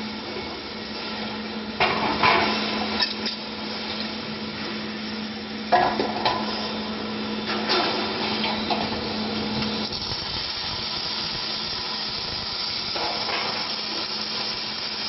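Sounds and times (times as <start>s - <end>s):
welding machine hissing: 0.0s - 15.0s.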